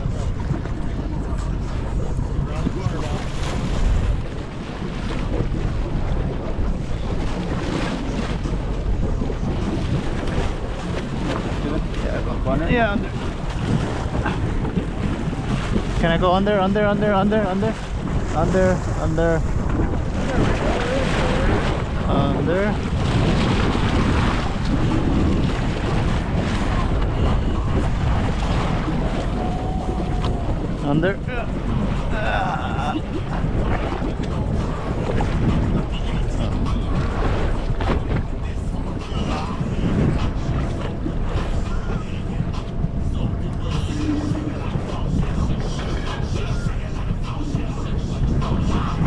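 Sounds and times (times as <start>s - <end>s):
rush of sea water: 0.0s - 49.0s
wind buffeting microphone: 0.0s - 49.0s.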